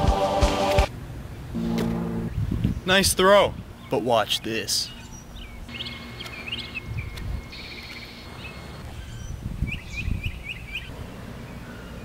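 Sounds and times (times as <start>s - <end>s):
small birds chirping: 2.2s - 12.0s.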